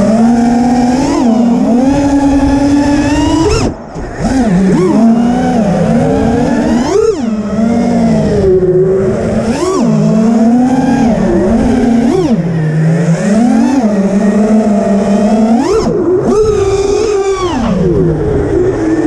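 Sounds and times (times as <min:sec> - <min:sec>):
quadcopter motors buzzing whine: 0:00.0 - 0:19.0.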